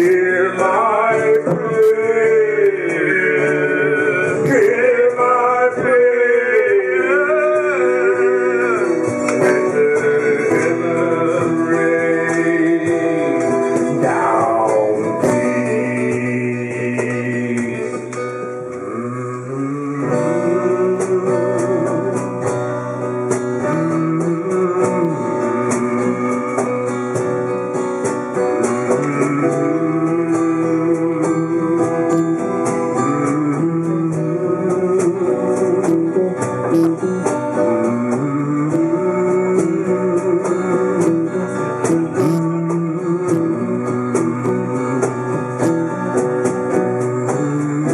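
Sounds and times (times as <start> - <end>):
acoustic band playing blues: 0.0 - 47.9
acoustic guitars strummed and picked: 0.0 - 47.9.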